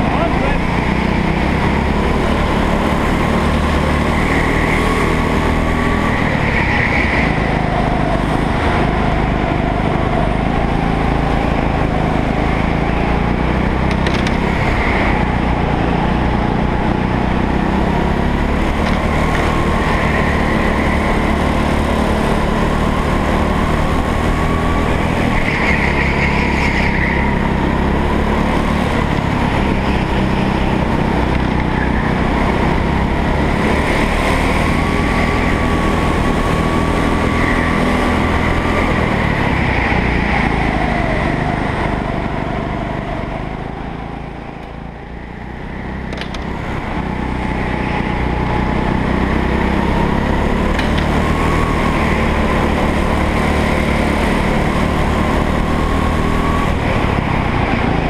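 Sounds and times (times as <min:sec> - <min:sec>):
go-kart engine droning: 0:00.0 - 0:58.0.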